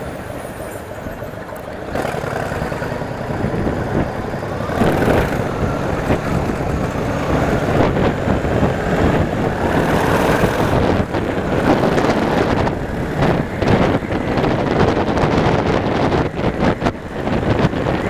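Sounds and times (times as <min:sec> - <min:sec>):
wind rushing over microphone: 0:00.0 - 0:18.0
motorcycle engine running: 0:01.4 - 0:18.0.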